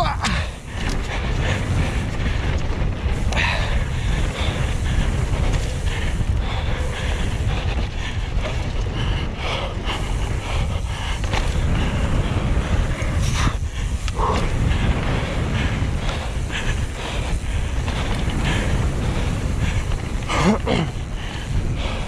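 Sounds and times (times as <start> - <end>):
bike and trail noise: 0.0 - 22.0
wind buffeting microphone: 0.0 - 22.0.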